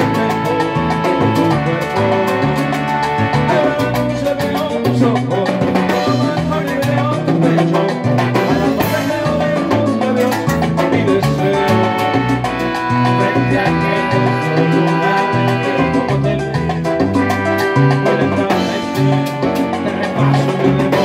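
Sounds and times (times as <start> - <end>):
live salsa band playing: 0.0 - 21.0.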